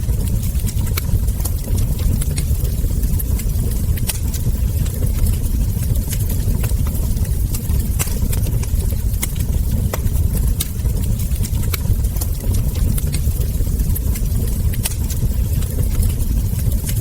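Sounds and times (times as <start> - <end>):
low fire rumble: 0.0 - 17.0
wood fire crackling: 0.0 - 17.0
sharp pops and snaps: 0.2 - 17.0.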